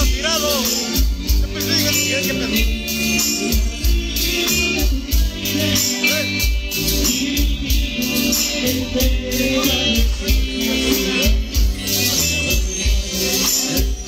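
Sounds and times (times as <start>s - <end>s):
live band playing dance music: 0.0s - 14.0s.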